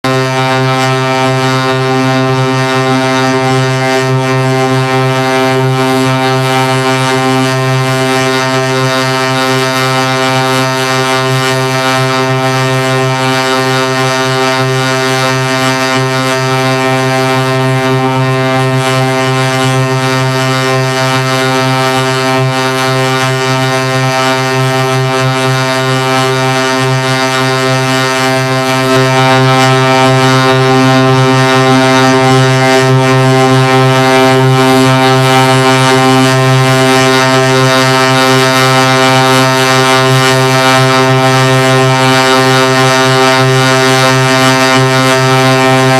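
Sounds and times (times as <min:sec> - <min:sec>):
low buzzing drone: 0:00.0 - 0:45.9.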